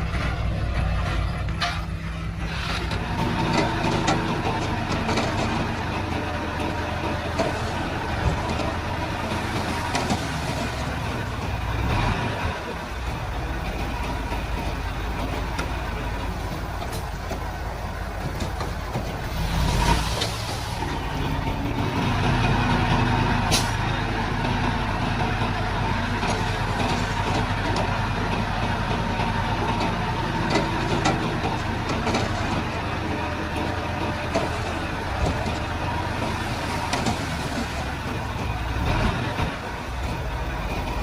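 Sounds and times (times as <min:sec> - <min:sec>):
diesel earthmoving machinery running: 0:00.0 - 0:41.0.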